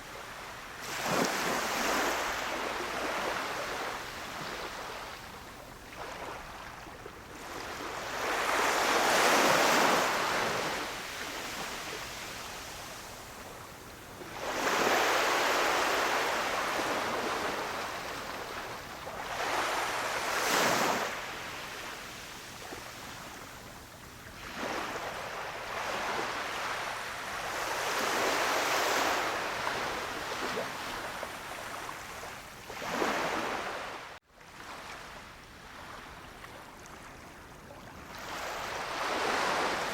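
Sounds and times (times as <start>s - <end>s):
waves washing onto beach: 0.0s - 35.0s, 35.6s - 39.9s.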